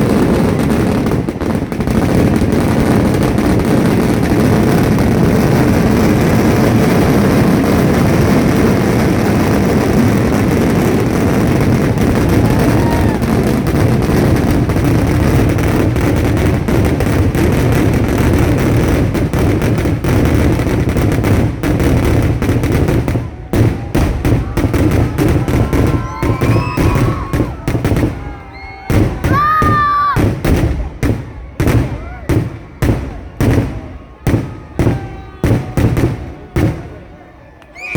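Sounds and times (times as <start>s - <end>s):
firecracker explosions: 0.0s - 37.9s.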